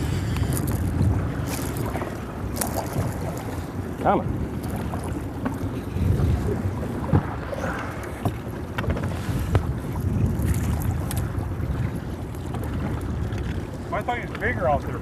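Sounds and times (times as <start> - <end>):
water sloshing against boat: 0.0 - 15.0
wind buffeting microphone: 0.0 - 15.0.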